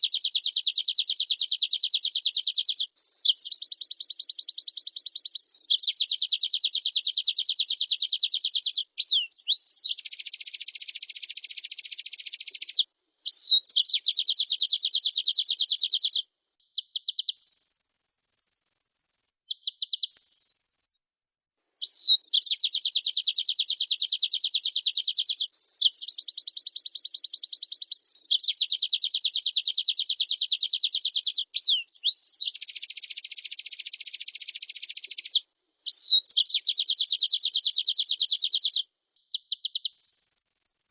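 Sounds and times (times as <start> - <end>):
bird trilling song: 0.0 - 16.2, 16.8 - 21.0, 21.8 - 40.9.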